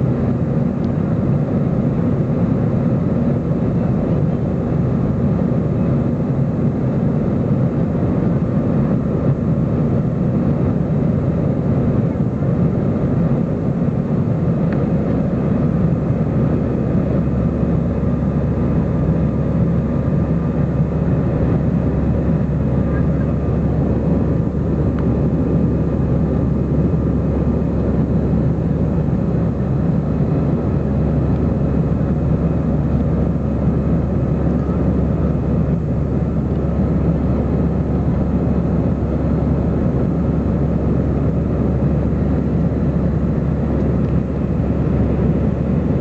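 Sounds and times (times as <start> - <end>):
airplane cabin engine drone: 0.0 - 46.0.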